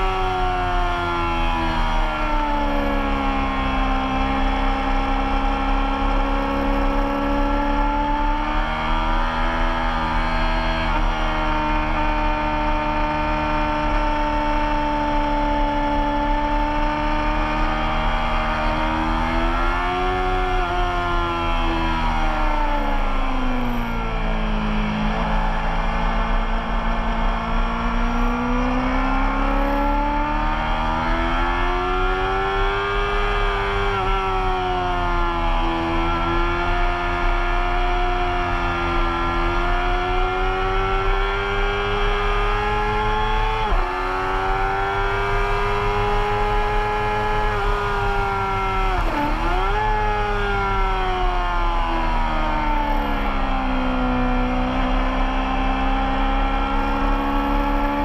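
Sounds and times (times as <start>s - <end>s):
race motorcycle engine revving: 0.0s - 58.0s.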